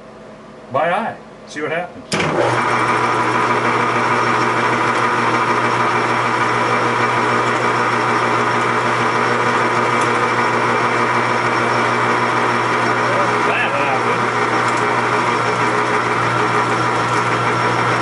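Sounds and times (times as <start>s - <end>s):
metal lathe running: 2.2s - 18.0s.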